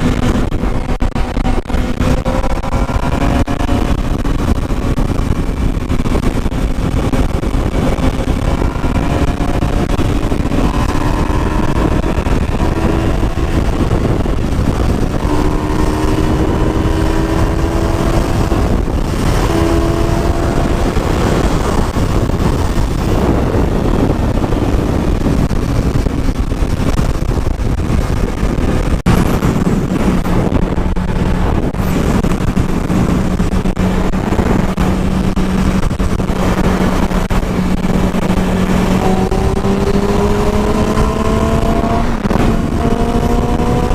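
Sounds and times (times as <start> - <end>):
motorcycle engine accelerating: 0.0 - 43.9
wind buffeting microphone: 0.0 - 43.9.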